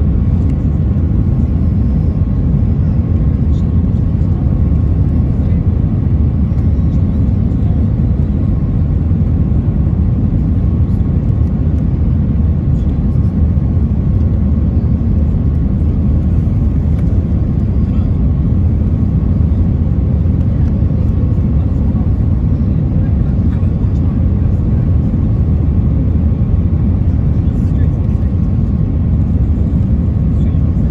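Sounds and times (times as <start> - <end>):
airliner cabin roar: 0.0 - 30.9.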